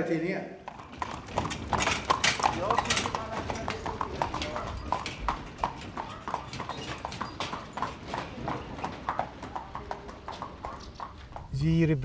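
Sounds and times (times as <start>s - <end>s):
horse hooves clip-clopping on asphalt: 0.6s - 11.6s.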